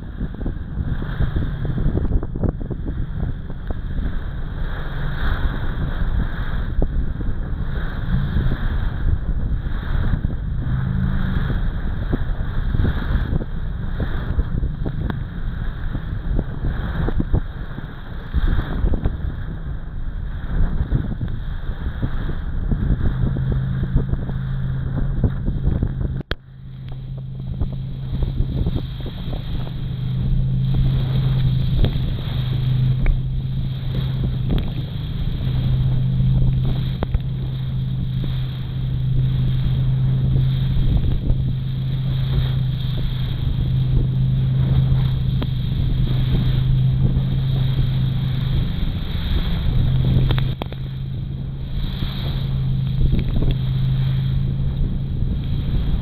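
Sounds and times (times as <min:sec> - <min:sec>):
hull slapping through waves: 0:00.0 - 0:56.0
motorboat engine running: 0:00.0 - 0:56.0
wind noise on microphone: 0:00.0 - 0:56.0.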